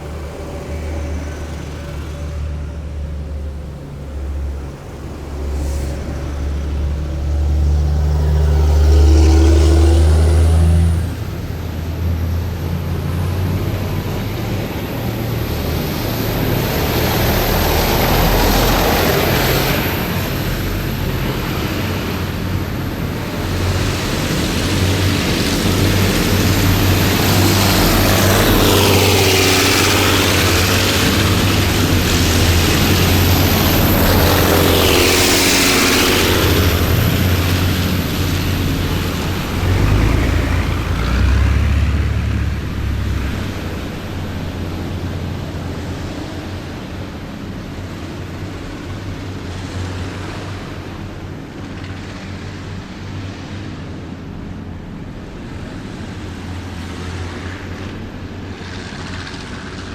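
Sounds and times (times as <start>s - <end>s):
military vehicles engines rumbling: 0.0s - 59.9s.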